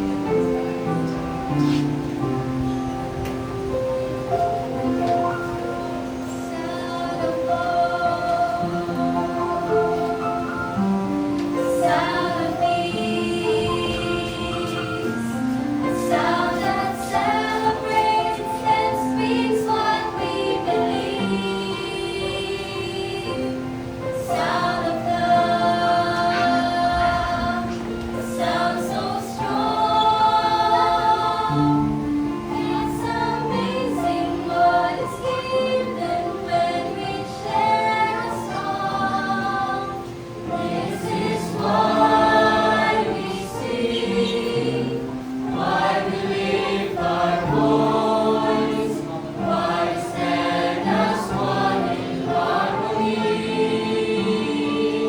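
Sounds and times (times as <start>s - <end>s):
choir singing long notes: 0.0s - 55.0s.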